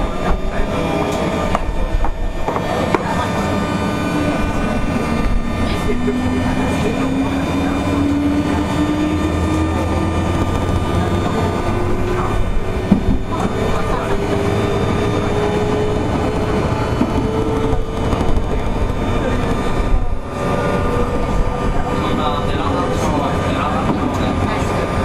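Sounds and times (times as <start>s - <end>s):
electric train motor whine: 0.0s - 25.0s
wheels rumbling on rail: 0.0s - 25.0s.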